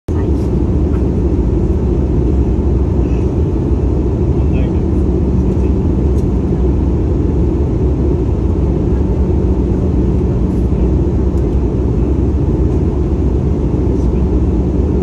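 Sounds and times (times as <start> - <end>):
jet engines and airflow drone: 0.1 - 15.0.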